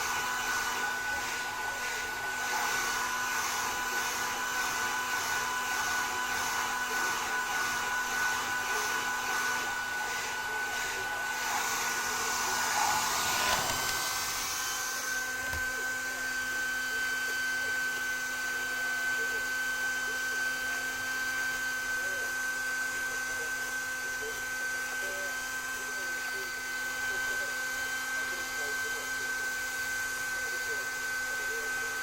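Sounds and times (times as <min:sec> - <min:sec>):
hair dryer blowing: 0:00.0 - 0:32.0.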